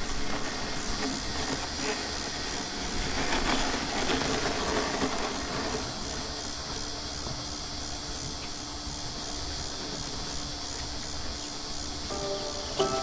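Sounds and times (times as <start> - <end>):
robotic lawnmower whirring: 0.0 - 13.0.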